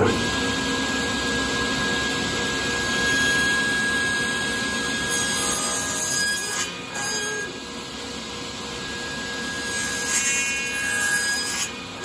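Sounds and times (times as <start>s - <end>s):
table saw cutting board: 0.0s - 12.0s.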